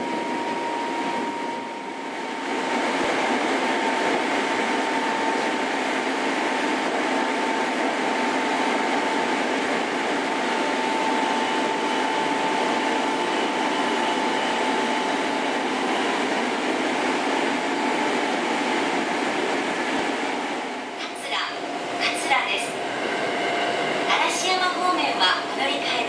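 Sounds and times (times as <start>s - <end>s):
faint steady whine: 0.0s - 26.0s
train rolling noise: 0.0s - 26.0s.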